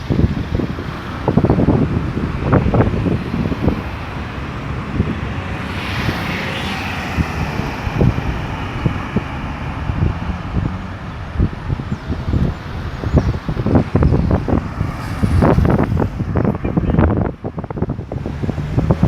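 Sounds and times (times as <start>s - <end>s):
road traffic: 0.0s - 19.0s
wind buffeting microphone: 0.0s - 19.0s
vehicle passing close: 0.2s - 19.0s.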